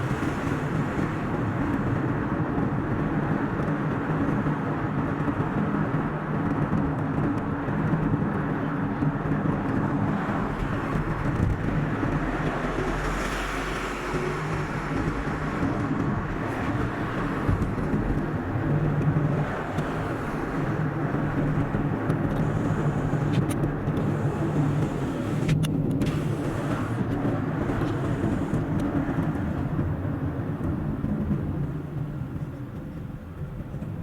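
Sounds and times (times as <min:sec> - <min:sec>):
low engine hum: 0:00.0 - 0:34.0.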